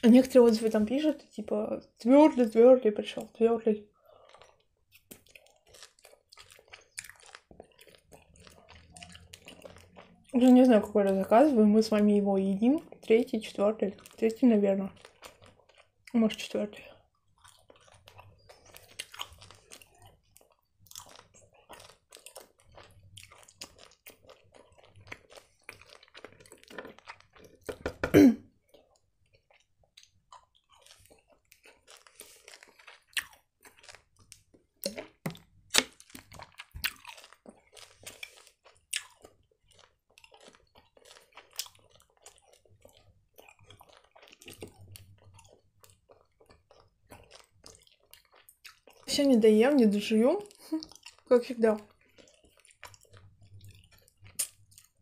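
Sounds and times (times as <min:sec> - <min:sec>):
chewing gummy candy: 0:00.0 - 0:27.9, 0:28.5 - 0:55.0.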